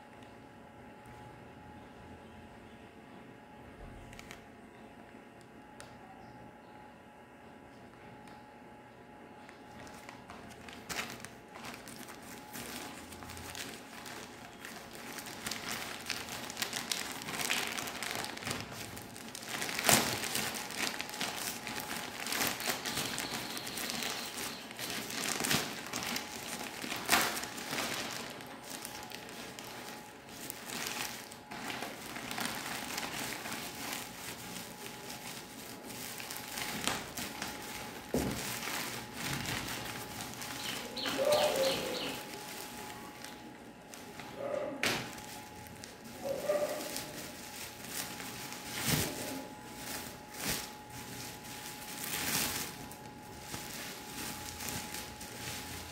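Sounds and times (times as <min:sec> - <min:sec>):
sharp plastic crackles: 0:04.0 - 0:04.5, 0:09.4 - 0:55.9
plastic bag crinkling: 0:09.5 - 0:55.9.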